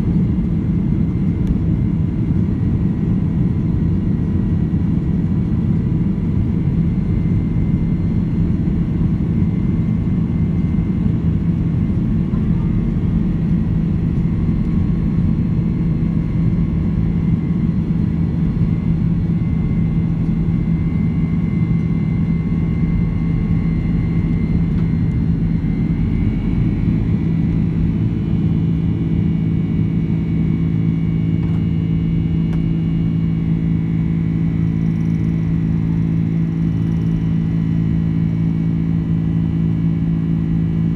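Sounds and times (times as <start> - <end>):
jet engines rumbling: 0.0 - 36.4.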